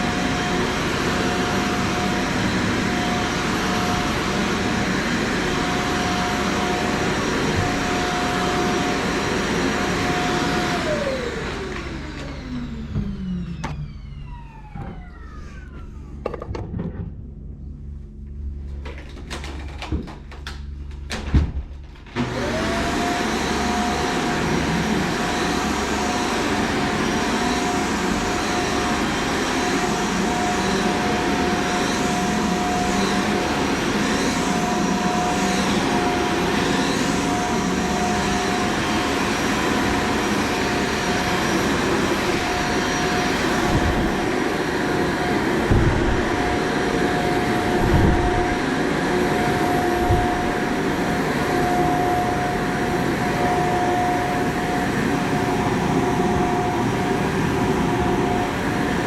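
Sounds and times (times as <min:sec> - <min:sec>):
vacuum cleaner motor whine: 0:00.0 - 0:16.8, 0:17.5 - 0:59.0.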